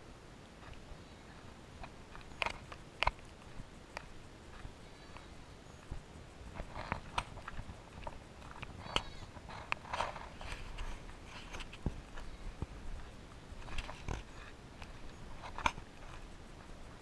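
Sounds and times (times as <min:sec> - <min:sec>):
footsteps on gravel: 0:00.6 - 0:06.0, 0:06.6 - 0:16.8.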